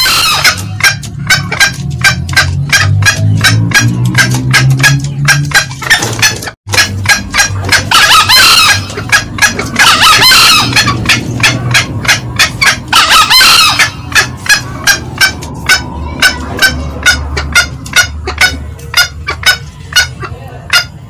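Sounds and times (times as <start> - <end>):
bird crowing calls: 0.0 - 20.2
birds cackling: 0.0 - 21.0.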